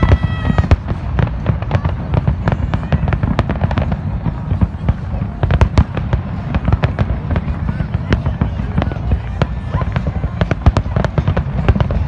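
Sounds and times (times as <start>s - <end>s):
fireworks bangs and crackles: 0.0s - 12.0s
low rumble of explosions: 0.0s - 12.0s.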